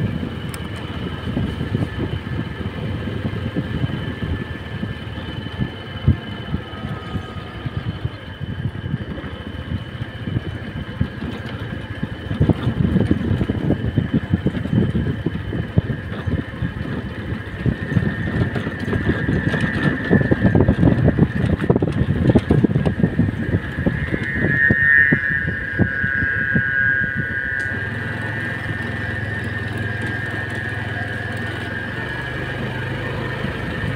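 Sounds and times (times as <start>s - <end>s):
motorcycle rumble: 0.0s - 33.9s
steady high-pitched tone: 0.0s - 33.9s.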